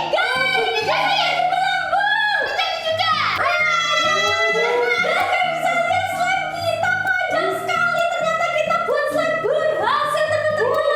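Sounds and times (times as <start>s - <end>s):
woman singing high melody: 0.0s - 10.9s.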